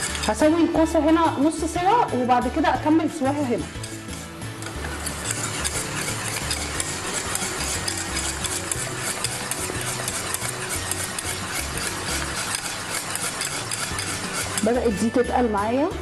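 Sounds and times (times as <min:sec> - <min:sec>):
whisk beating in a metal saucepan: 0:00.0 - 0:01.6, 0:02.8 - 0:15.3.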